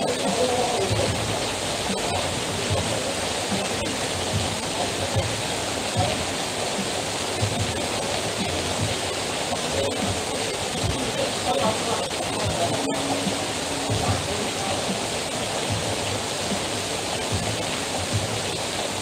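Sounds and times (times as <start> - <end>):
heavy rain: 0.0 - 19.0
water pouring off roof: 0.0 - 19.0.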